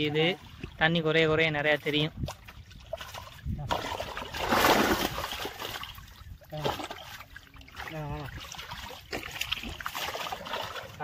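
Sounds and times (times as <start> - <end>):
light water sloshing: 0.0 - 11.0
shallow water splashing hard: 2.1 - 11.0.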